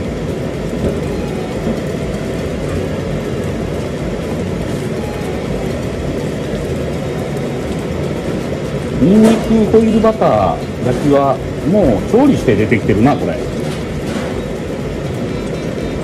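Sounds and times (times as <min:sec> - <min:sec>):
ventilation fan whooshing: 0:00.0 - 0:16.0.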